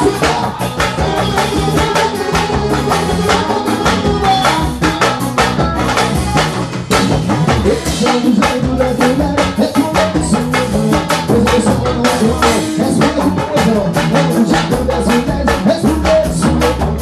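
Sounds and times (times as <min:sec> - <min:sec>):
drum kit beat: 0:00.0 - 0:17.0
electric guitar: 0:00.0 - 0:17.0
live band music: 0:00.0 - 0:17.0.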